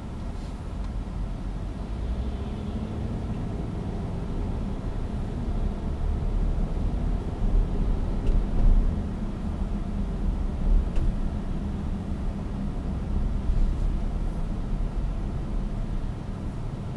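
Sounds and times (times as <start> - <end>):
diesel engine rumble: 0.0 - 16.9
tyres on the road: 0.0 - 16.9.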